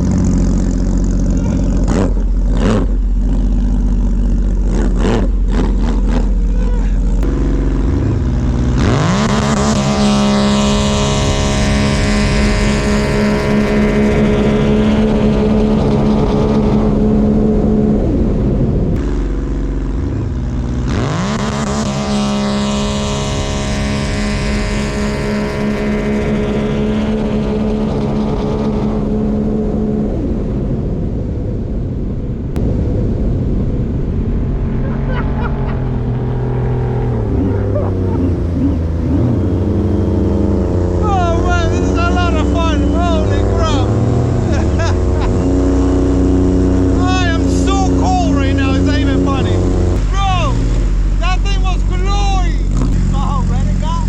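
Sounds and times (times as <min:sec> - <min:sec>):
jet ski engines revving: 0:00.0 - 0:31.9, 0:32.5 - 0:54.0.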